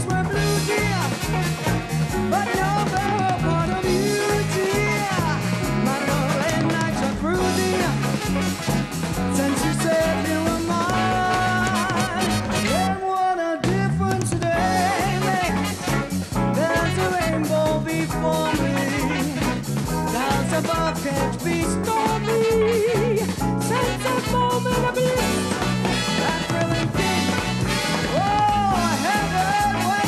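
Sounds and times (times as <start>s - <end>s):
live band with horns and guitar: 0.0s - 30.0s.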